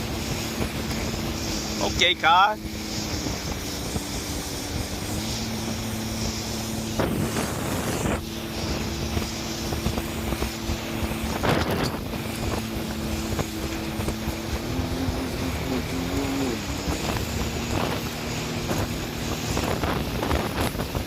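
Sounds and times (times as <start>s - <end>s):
jet ski engine running: 0.0s - 21.0s
loud rushes of noise: 0.0s - 21.0s
wind buffeting microphone: 0.0s - 21.0s.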